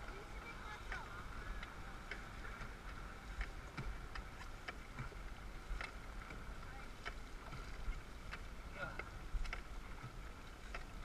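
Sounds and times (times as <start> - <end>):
low rumble of water: 0.0 - 11.0
paddles splashing water: 0.0 - 11.0.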